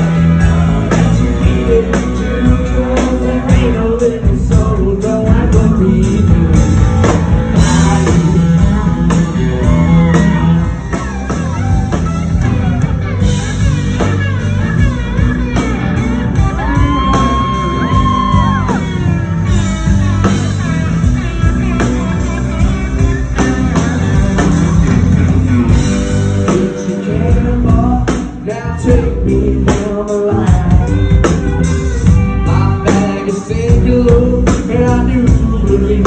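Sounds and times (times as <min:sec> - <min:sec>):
live rock band playing loudly: 0:00.0 - 0:36.0.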